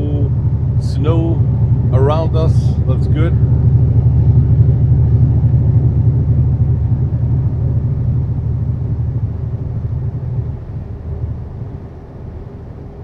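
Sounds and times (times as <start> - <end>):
diesel truck engine drone: 0.0 - 13.0.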